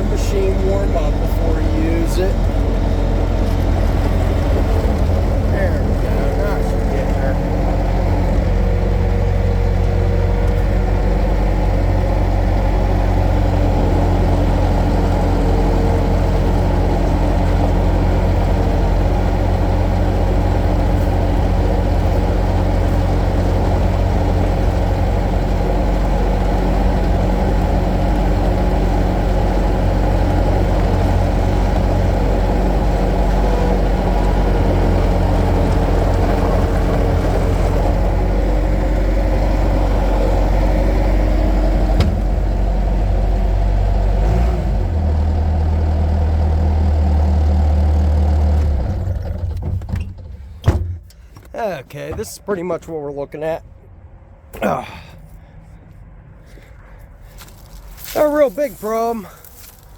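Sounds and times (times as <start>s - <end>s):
loader engine droning: 0.0s - 59.9s.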